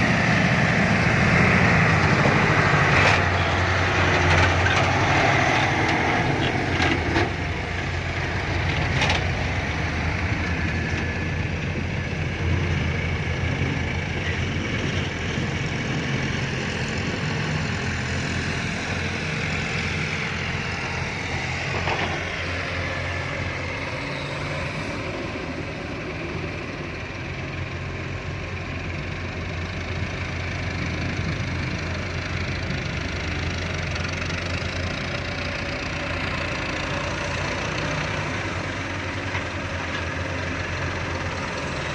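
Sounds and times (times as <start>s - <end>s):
diesel excavator engine running: 0.0s - 41.9s.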